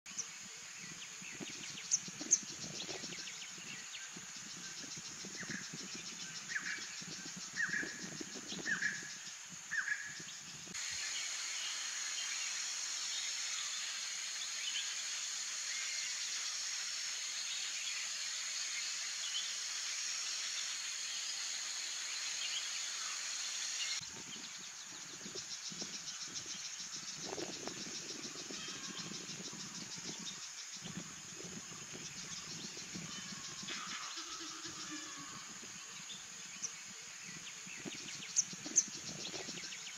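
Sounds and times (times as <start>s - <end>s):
dense insect drone: 0.1s - 39.9s
insects trilling: 0.1s - 39.9s.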